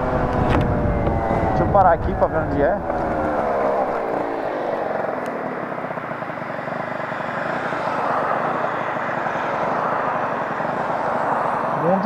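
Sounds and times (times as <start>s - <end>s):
scooter engine idling: 0.0s - 11.9s.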